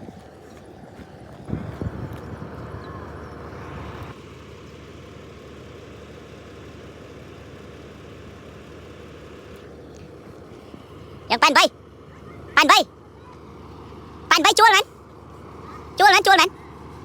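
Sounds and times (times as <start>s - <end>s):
concrete mixer truck running: 0.0s - 17.0s.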